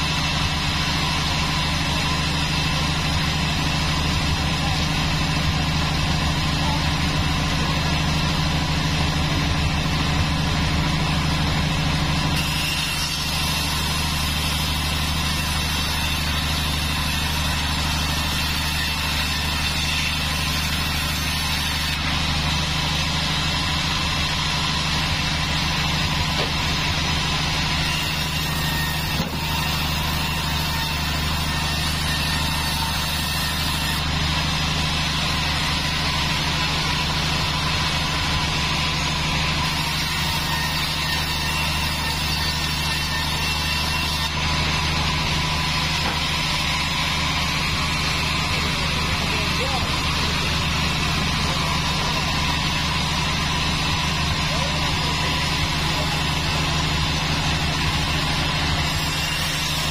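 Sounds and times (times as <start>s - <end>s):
band saw motor humming: 0.0s - 59.9s
saw blade cutting through log: 0.0s - 59.9s.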